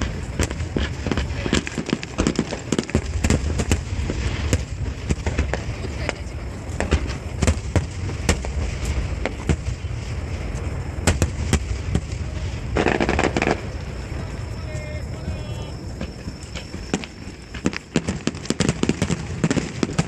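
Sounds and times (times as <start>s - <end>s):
fireworks bangs and pops: 0.0s - 20.0s
low rumbling: 0.0s - 20.0s.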